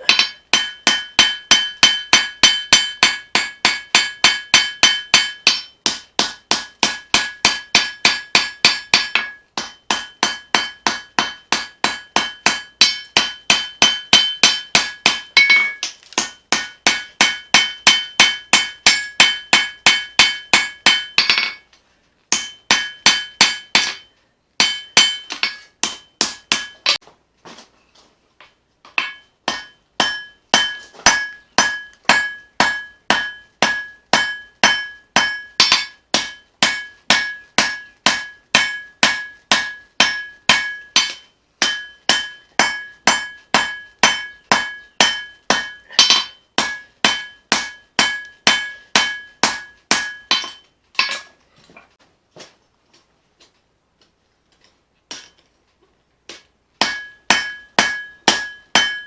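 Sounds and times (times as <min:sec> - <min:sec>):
hammer ringing on anvil: 0:00.0 - 0:21.7, 0:22.3 - 0:27.0, 0:29.0 - 0:51.3, 0:56.8 - 0:59.0.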